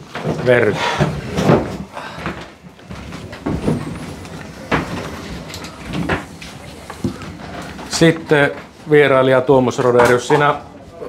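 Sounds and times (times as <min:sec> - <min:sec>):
chairs and table scraping: 0:00.0 - 0:11.0.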